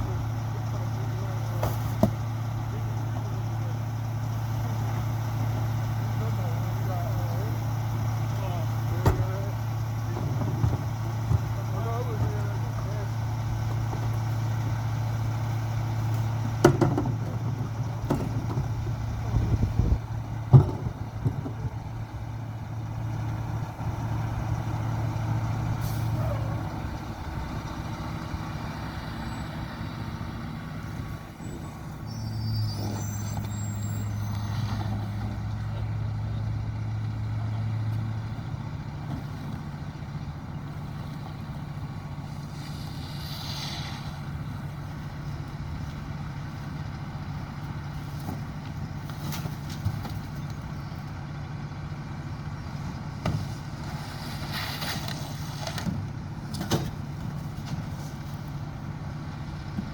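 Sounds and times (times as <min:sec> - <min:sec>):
garbage truck diesel engine: 0:00.0 - 0:59.9.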